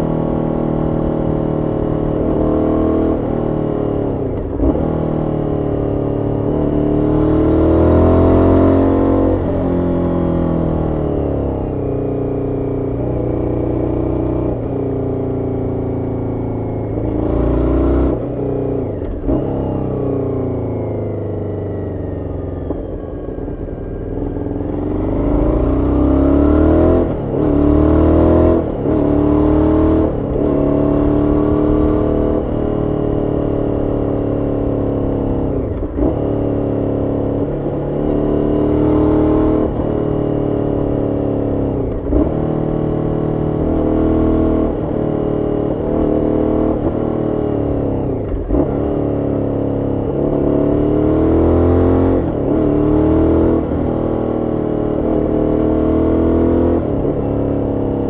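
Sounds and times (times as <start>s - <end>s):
motorcycle engine revving: 0.0s - 23.1s, 23.7s - 58.0s.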